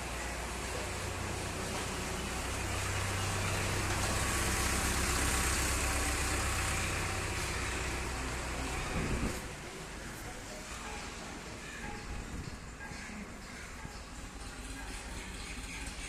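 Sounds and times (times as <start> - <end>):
broad rushing noise: 0.0 - 15.3
engine running with low hum: 0.0 - 16.0.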